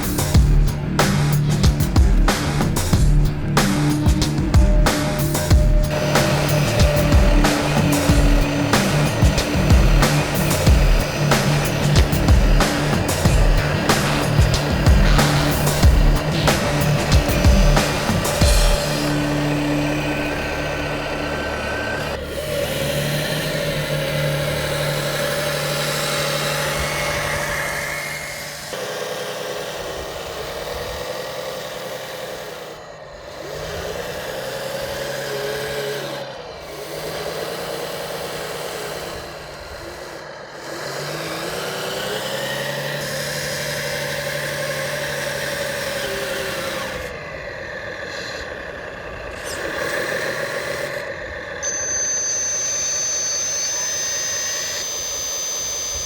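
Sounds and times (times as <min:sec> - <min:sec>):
thin high whine: 0:00.0 - 0:33.0, 0:34.7 - 0:56.0
electric motors and pumps whining: 0:00.0 - 0:56.0.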